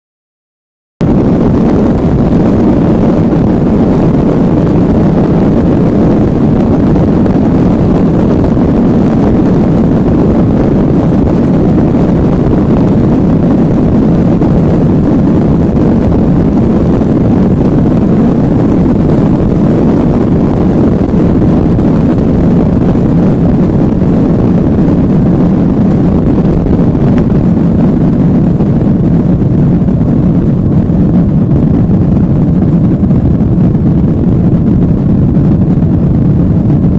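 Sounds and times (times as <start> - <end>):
jet engine low rumble: 1.0 - 36.9.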